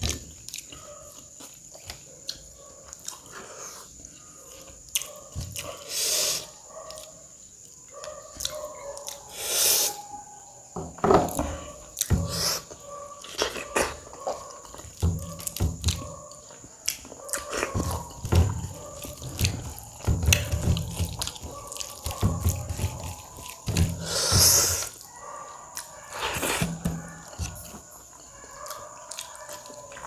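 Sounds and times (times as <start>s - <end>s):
person chewing food: 0.0s - 9.3s, 11.9s - 30.0s.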